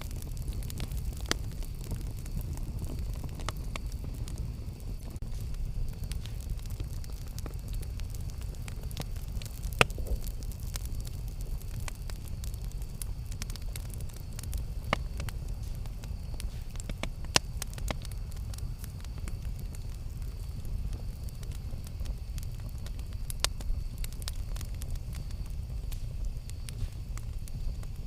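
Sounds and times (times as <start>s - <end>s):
fire crackles and pops: 0.0s - 28.0s
low rumble of fire flames: 0.0s - 28.0s.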